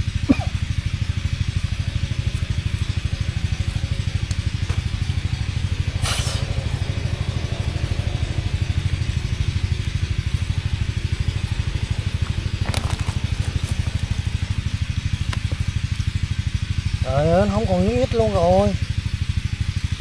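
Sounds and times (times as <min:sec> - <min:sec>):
small boat engine chugging: 0:00.0 - 0:20.0.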